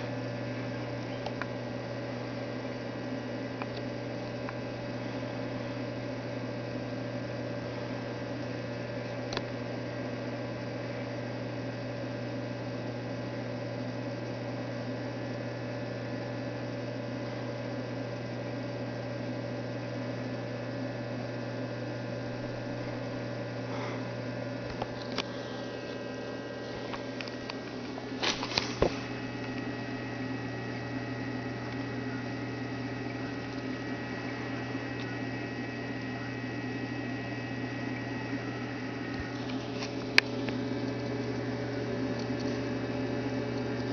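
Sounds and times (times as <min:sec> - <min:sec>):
aquarium pump humming: 0:00.0 - 0:43.9.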